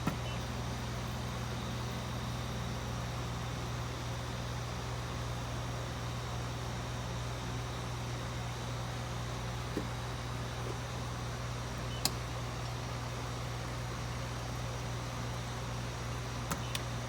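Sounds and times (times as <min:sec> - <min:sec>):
inkjet printer humming and hissing: 0:00.0 - 0:17.0.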